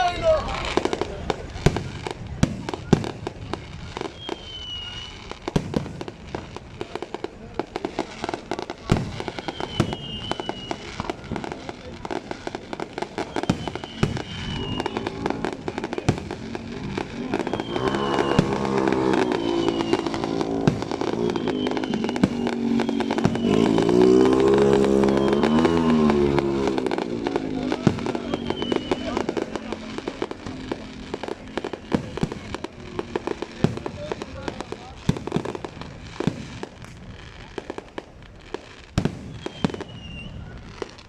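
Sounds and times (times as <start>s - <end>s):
fireworks bangs and crackles: 0.0s - 41.0s
fireworks falling whistles: 0.0s - 41.0s.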